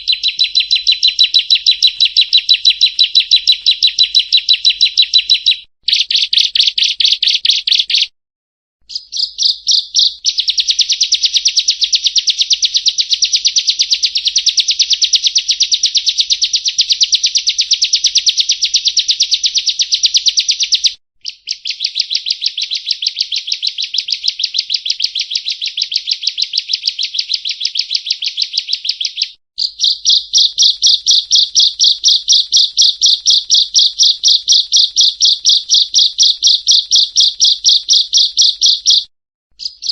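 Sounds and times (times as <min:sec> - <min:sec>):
bird singing high chirps: 0:00.0 - 0:08.1, 0:08.8 - 0:39.9.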